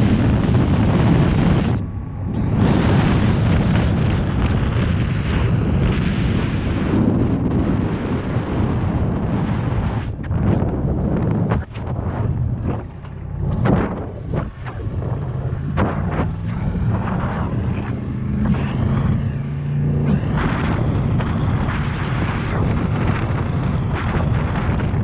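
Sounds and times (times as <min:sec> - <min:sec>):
motorcycle engine hum: 0:00.0 - 0:25.0
wind buffeting microphone: 0:00.0 - 0:25.0.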